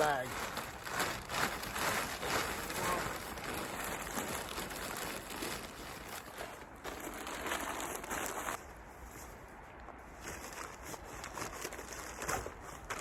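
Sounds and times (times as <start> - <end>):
camping gear rustling and crinkling: 0.0 - 13.0.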